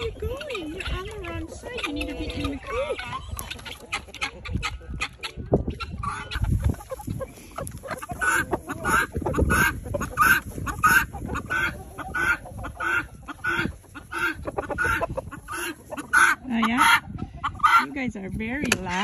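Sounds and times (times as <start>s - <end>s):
chickens and guinea fowl calling: 0.0s - 19.0s
wind rumble on microphone: 0.0s - 19.0s.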